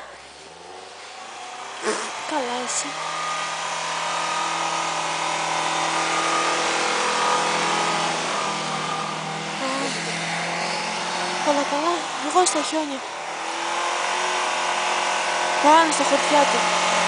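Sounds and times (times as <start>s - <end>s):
car engine revving high: 0.0s - 17.0s
snow spraying from tyres: 0.0s - 17.0s.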